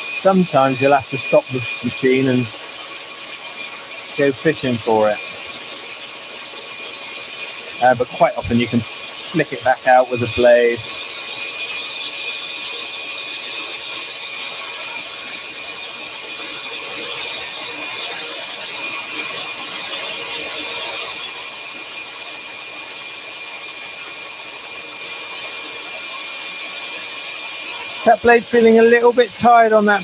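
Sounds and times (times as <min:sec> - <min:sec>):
dust extractor whirring: 0:00.0 - 0:30.0
scroll saw cutting wood: 0:00.0 - 0:30.0.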